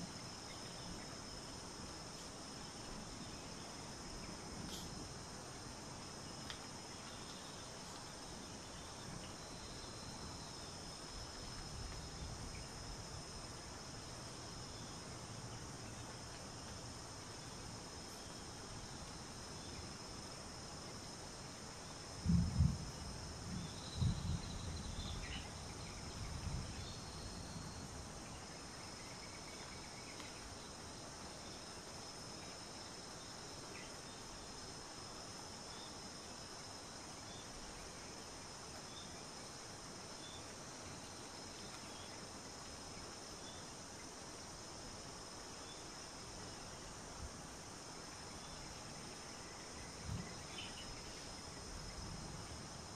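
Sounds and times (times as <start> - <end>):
crickets and insects droning: 0.0 - 52.9.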